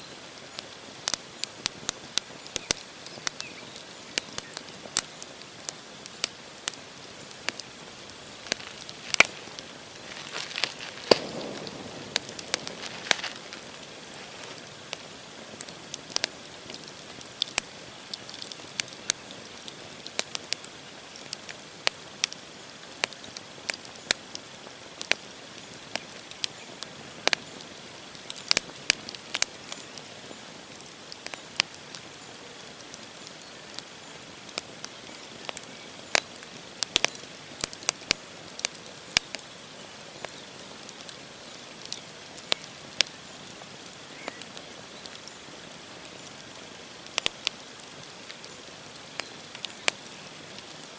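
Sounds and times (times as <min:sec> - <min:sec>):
campfire logs crackling and popping: 0:00.0 - 0:50.9
hiss of flames: 0:00.1 - 0:50.9.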